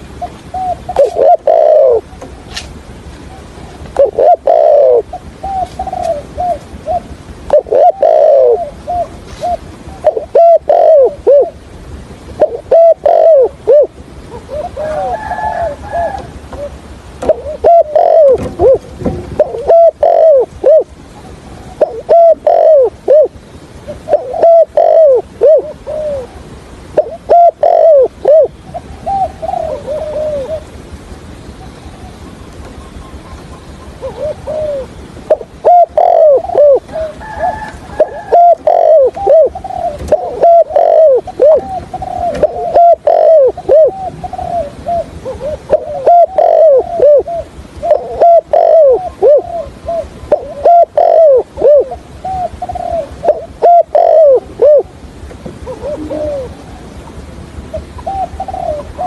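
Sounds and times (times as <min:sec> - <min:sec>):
dove cooing: 0:00.0 - 0:02.6, 0:03.2 - 0:11.6, 0:12.3 - 0:30.8, 0:31.4 - 0:59.0.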